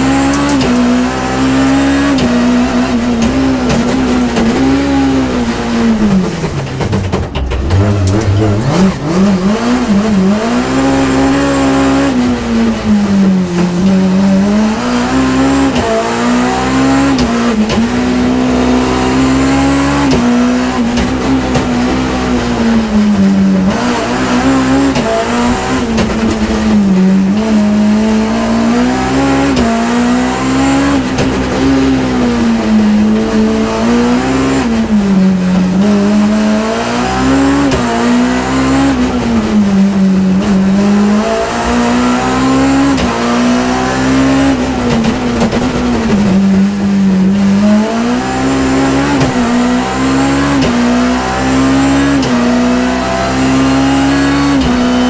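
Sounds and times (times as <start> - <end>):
rally car engine at high revs: 0.0 - 55.0.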